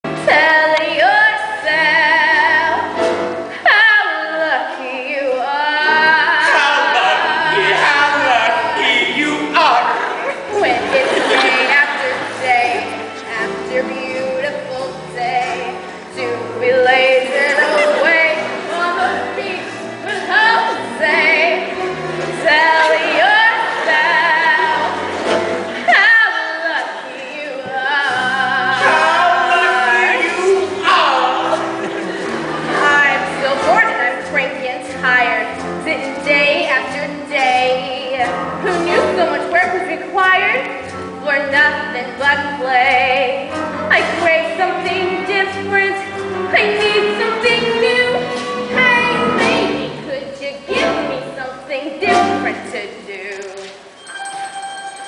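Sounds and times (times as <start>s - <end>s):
musical accompaniment: 0.0s - 55.0s
voices singing with vibrato: 0.1s - 55.0s.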